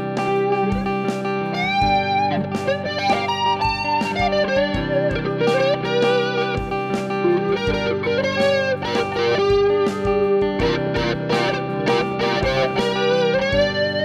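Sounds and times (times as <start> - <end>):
distorted electric guitar lead: 0.0 - 14.0
looped guitar low notes: 0.0 - 14.0.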